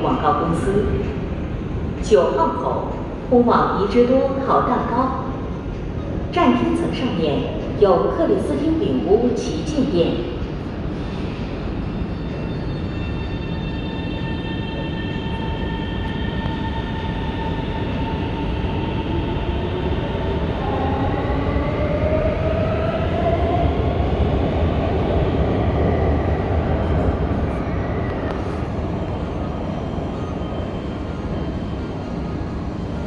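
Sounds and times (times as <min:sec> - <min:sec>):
train rumble: 0:00.0 - 0:33.0.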